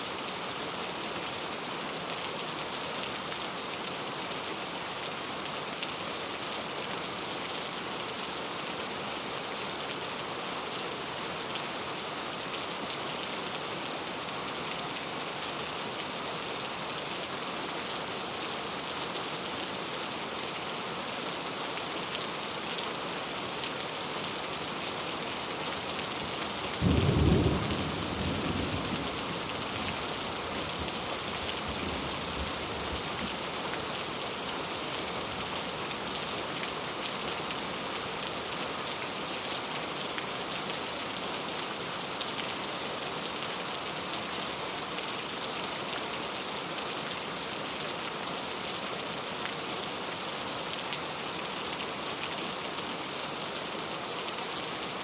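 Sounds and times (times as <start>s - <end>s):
heavy rain on a road: 0.0s - 55.0s.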